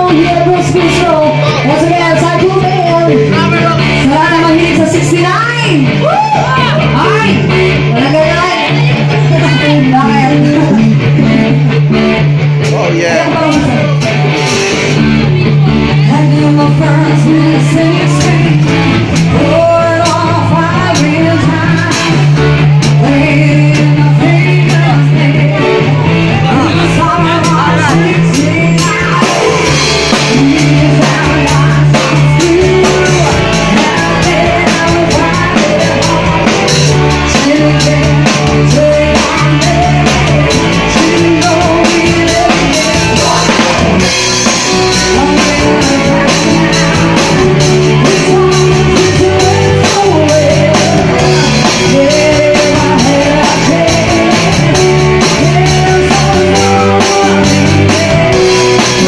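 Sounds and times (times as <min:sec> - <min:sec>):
woman singing: 0:00.0 - 0:11.8, 0:13.2 - 0:14.3, 0:15.4 - 0:59.0
drum kit with cymbals: 0:00.0 - 0:59.0
guitar: 0:00.0 - 0:59.0.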